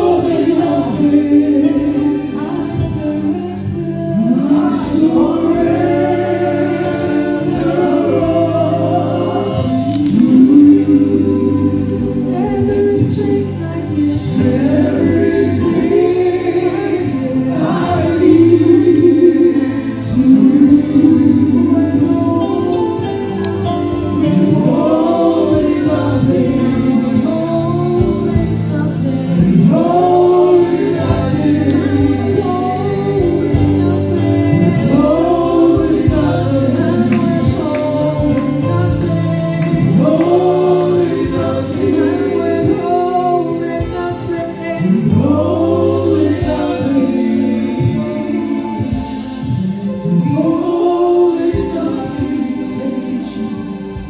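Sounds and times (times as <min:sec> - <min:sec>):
group singing gospel song: 0:00.0 - 0:54.0.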